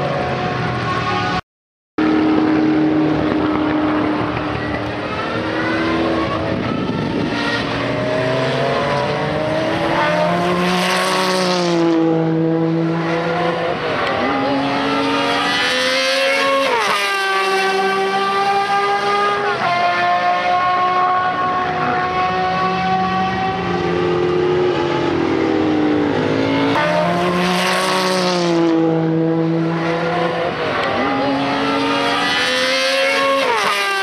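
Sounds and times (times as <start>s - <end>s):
racing car engine at high revs: 2.0s - 34.0s.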